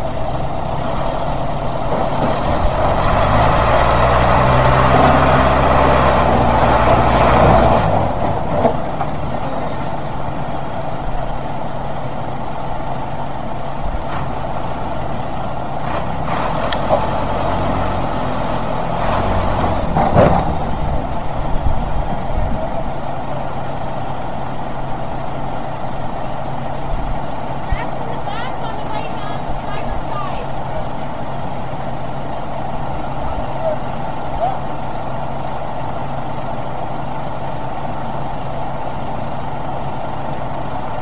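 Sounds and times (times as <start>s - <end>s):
tractor engines working hard: 0.0s - 41.0s.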